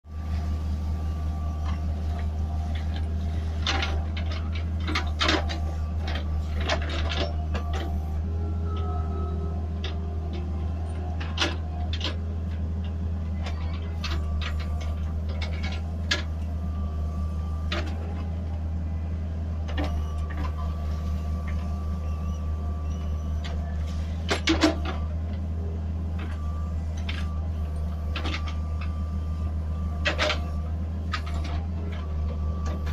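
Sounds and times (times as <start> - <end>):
backhoe loader engine running: 0.0 - 32.9.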